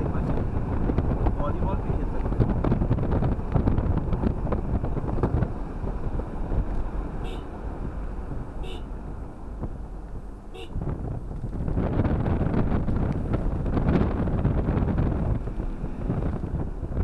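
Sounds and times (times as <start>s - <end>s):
car cabin engine rumble: 0.0s - 17.0s.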